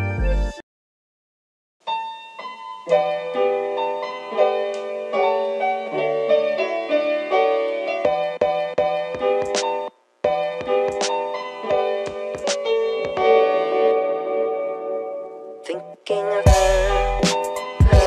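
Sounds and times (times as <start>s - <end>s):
piano music: 0.0s - 0.6s, 1.8s - 18.0s.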